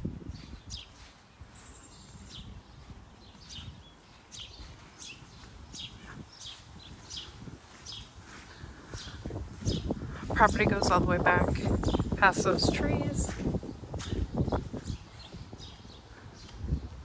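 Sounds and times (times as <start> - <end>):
songbird chirping: 0.3 - 17.0.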